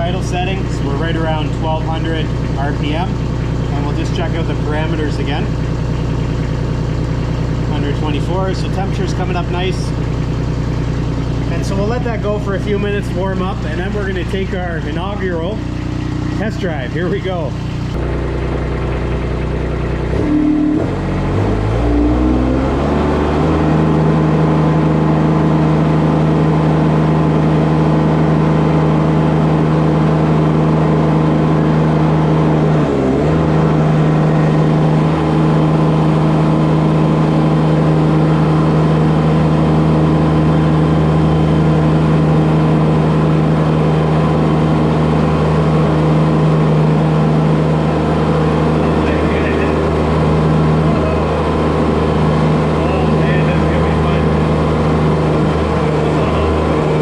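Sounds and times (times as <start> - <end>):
loader diesel engine revving up: 6.9 - 57.0.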